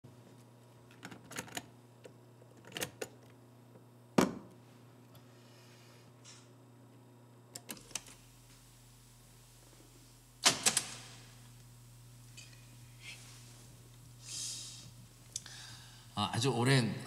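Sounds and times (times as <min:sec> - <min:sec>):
faint low hum: 0:00.1 - 0:17.0.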